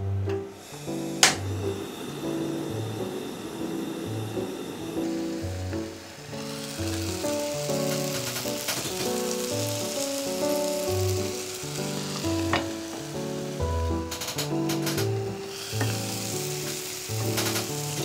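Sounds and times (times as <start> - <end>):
food sizzling in a pan: 0.5 - 18.0.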